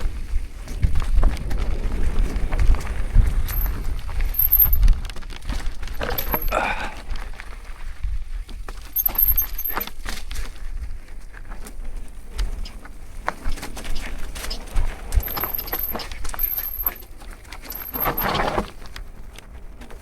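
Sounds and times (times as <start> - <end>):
low wind rumble on microphone: 0.0 - 17.7
mountain bike rattling and clicking: 0.0 - 20.0.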